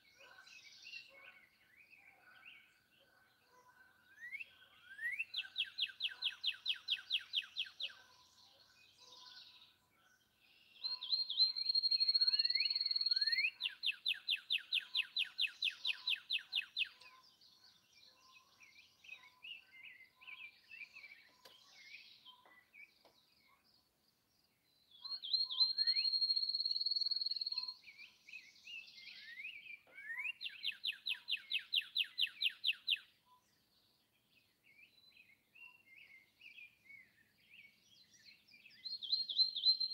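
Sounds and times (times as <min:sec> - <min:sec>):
faint bird chirps: 0:00.0 - 0:39.9
songbird trilling song: 0:00.0 - 0:39.9.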